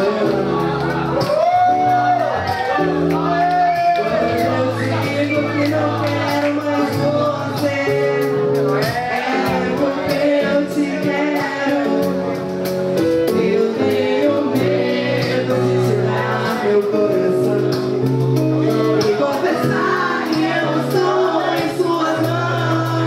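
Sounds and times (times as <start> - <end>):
live band playing: 0.0 - 23.0
woman singing: 2.1 - 12.4, 13.2 - 23.0.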